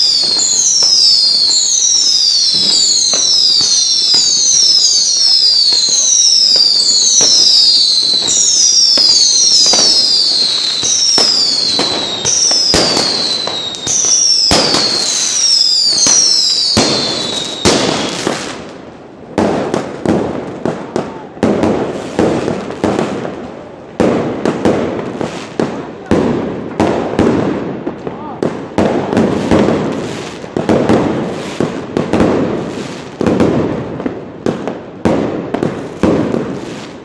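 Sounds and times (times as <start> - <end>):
firecracker bangs: 0.0 - 18.7, 19.3 - 37.0
whistling fireworks: 0.0 - 37.0.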